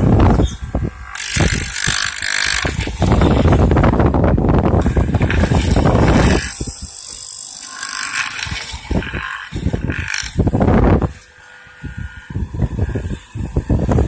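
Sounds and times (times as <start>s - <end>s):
mortising machine cutting wood: 0.0s - 14.0s.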